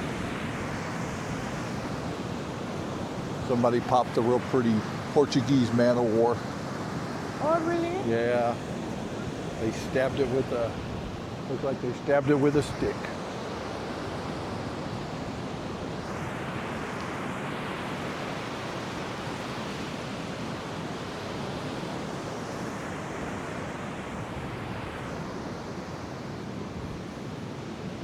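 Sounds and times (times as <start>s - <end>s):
ocean surf washing onto beach: 0.0s - 28.0s.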